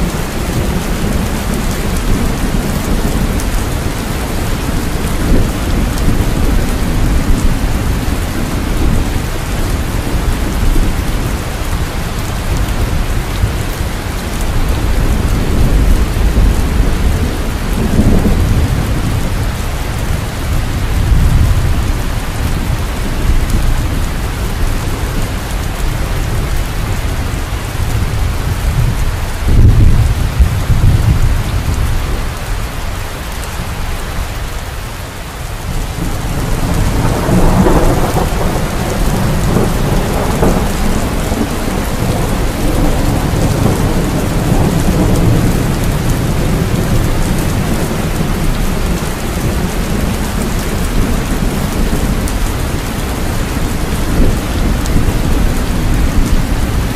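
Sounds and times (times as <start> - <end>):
thunder rumbling: 0.0 - 34.6, 35.2 - 56.9
heavy rain: 0.0 - 56.9.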